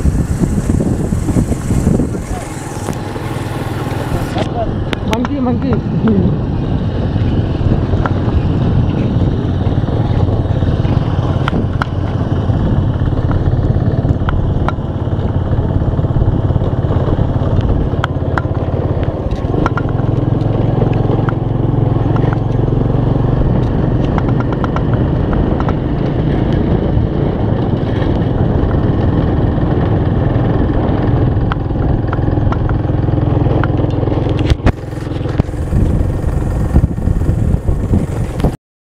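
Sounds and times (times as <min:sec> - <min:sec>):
motorcycle engine running: 0:00.0 - 0:38.6
road and rushing air noise: 0:00.0 - 0:38.6.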